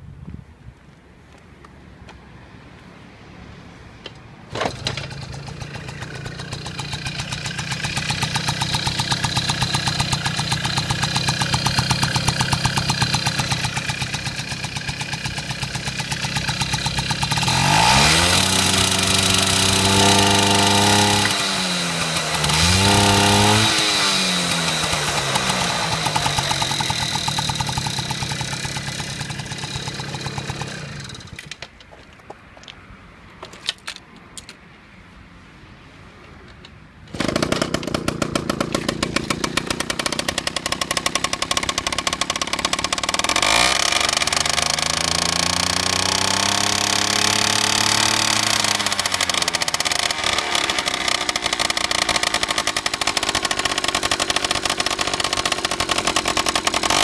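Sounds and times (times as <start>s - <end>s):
two-stroke engine idling and revving: 4.1s - 31.6s, 37.1s - 57.0s.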